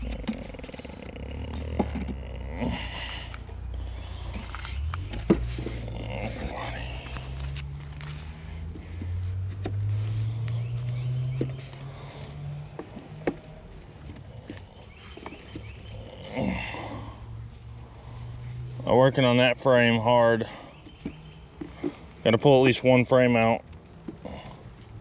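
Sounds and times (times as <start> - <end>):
honey bees buzzing: 0.0 - 22.1.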